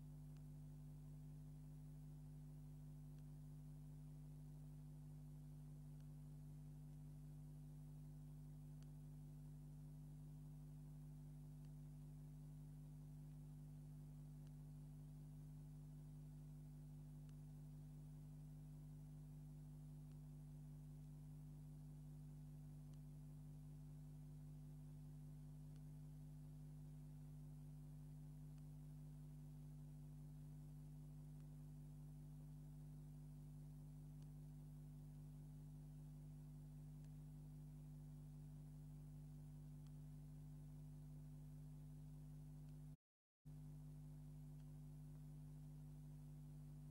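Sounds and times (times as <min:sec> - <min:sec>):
faint electrical hum: 0:00.0 - 0:46.9
faint tick: 0:00.1 - 0:10.8, 0:11.4 - 0:46.9.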